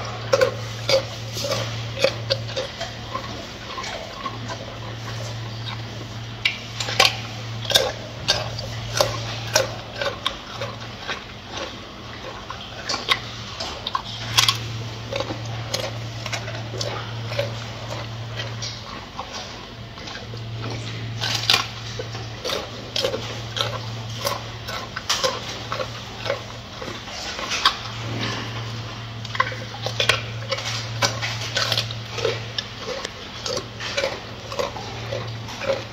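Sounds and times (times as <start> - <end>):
gorilla chewing lettuce: 0.0 - 35.9
steady low hum: 0.0 - 35.9.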